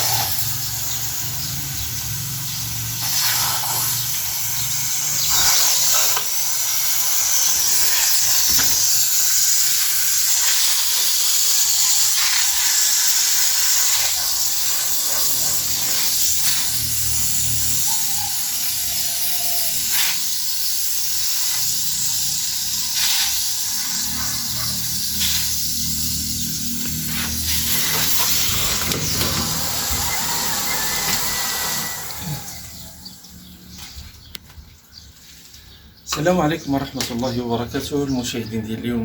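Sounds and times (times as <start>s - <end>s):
garden hose spraying water: 0.0s - 34.3s.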